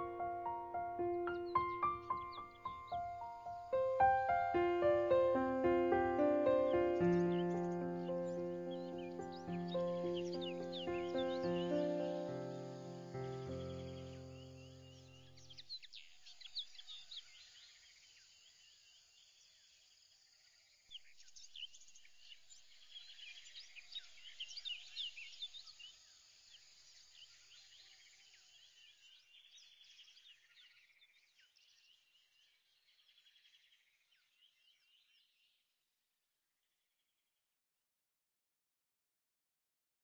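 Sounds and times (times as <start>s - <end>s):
faint birdsong: 0.0s - 35.7s.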